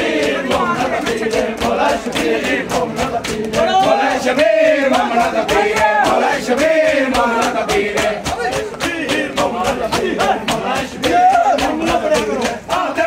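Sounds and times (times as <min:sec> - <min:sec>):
hands slapping chests: 0:00.0 - 0:13.0
men chanting in unison: 0:00.0 - 0:13.0.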